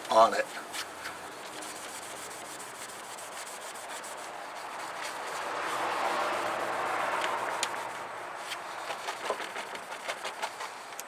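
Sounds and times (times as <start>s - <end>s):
cleaning wipe scrubbing plastic lens: 0.6s - 10.9s.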